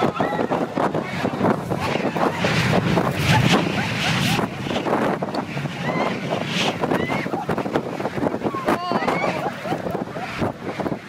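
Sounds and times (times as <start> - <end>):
people shouting and whooping: 0.0 - 1.1, 1.9 - 7.8, 8.4 - 10.5
jet engines roaring: 0.0 - 11.0
wind buffeting microphone: 0.0 - 11.0.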